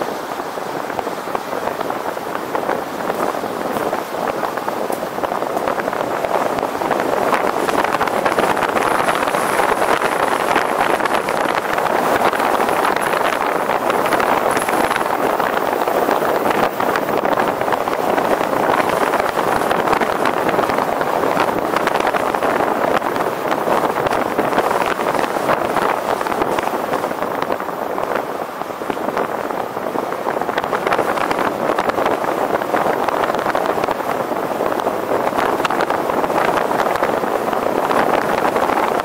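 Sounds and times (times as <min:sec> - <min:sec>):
vehicle road and wind noise: 0:00.0 - 0:39.0.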